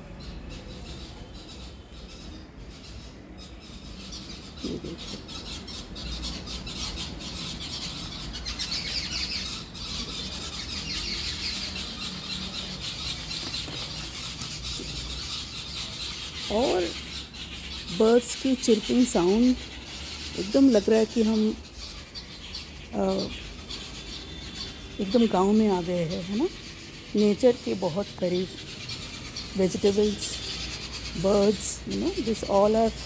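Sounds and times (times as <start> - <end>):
small birds twittering: 0.0 - 33.0.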